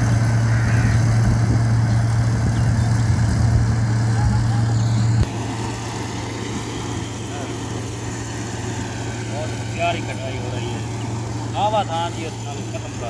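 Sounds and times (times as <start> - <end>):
combine harvester engine hum: 0.0 - 13.0.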